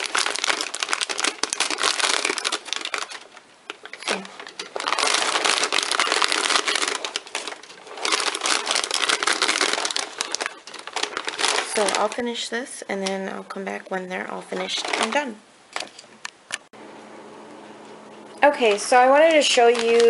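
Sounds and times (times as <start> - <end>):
parchment paper crinkling: 0.0 - 13.2, 14.4 - 16.7, 18.4 - 20.0.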